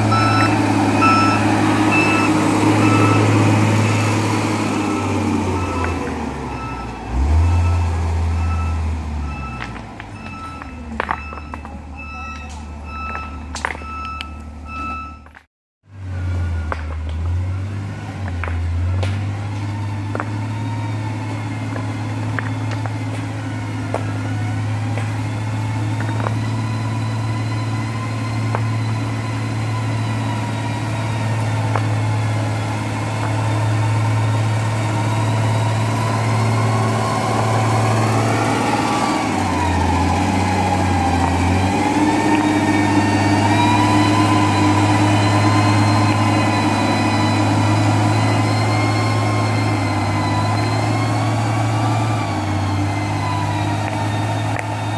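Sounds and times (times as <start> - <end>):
heavy machinery engine running: 0.0 - 15.2, 16.0 - 54.9.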